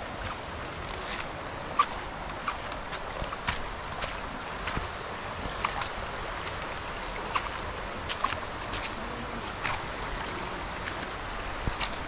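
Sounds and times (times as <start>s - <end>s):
footsteps on stony leafy path: 0.0s - 12.0s
rocky stream rushing: 0.0s - 12.0s.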